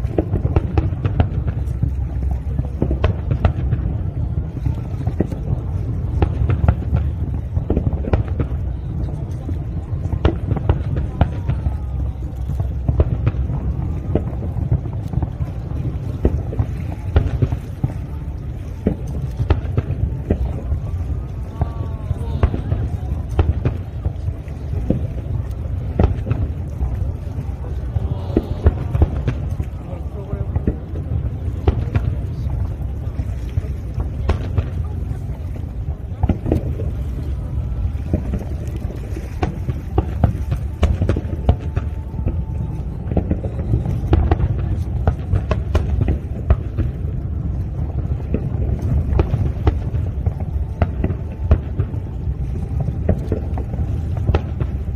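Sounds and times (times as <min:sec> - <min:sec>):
fireworks bangs and crackles: 0:00.0 - 0:54.9
steady low rumble: 0:00.0 - 0:54.9.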